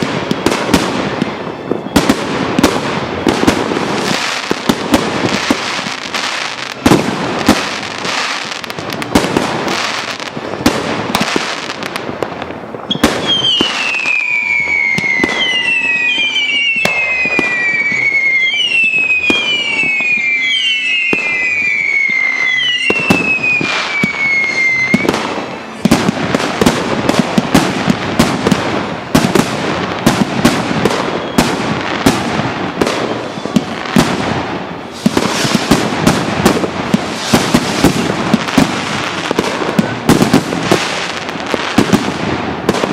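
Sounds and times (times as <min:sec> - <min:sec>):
fireworks bangs and crackling: 0:00.0 - 0:42.9
whistling fireworks: 0:00.0 - 0:42.9.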